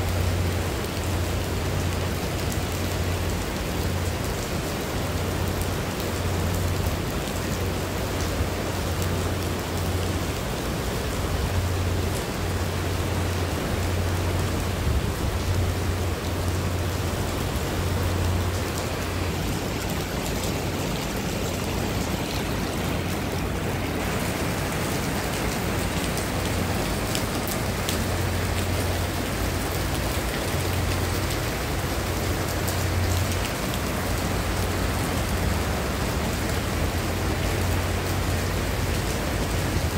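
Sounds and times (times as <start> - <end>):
heavy rain on paving and water: 0.0 - 39.9.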